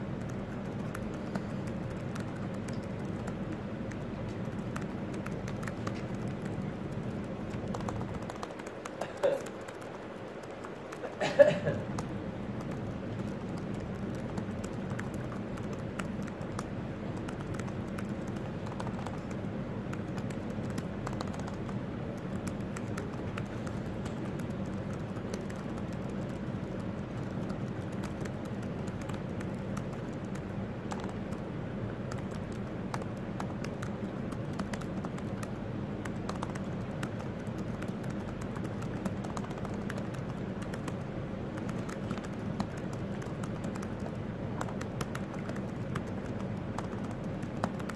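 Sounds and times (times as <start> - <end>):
laptop keyboard typing: 0.0 - 47.9
low room hum: 0.0 - 47.9.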